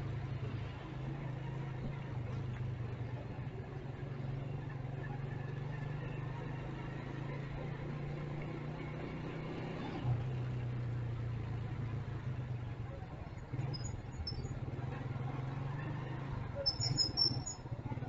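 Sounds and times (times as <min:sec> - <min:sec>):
motorcycle engine running: 0:00.0 - 0:18.0
street traffic noise: 0:00.0 - 0:18.0.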